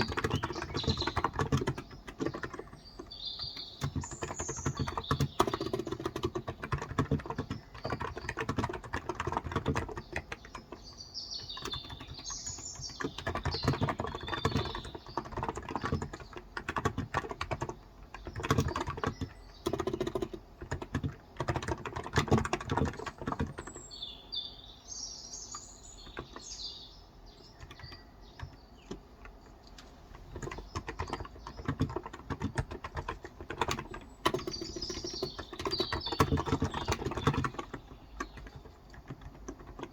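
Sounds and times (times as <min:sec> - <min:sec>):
typing on keyboard: 0:00.0 - 0:23.9, 0:25.5 - 0:26.6, 0:27.3 - 0:39.9
birds chirping: 0:00.0 - 0:39.9.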